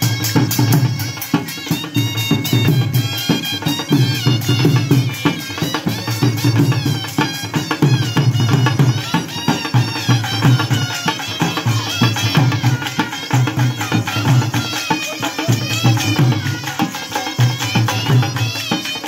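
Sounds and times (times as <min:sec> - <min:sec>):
drums beating driving rhythm: 0:00.0 - 0:19.0
wind instrument high wavering melody: 0:00.0 - 0:19.0.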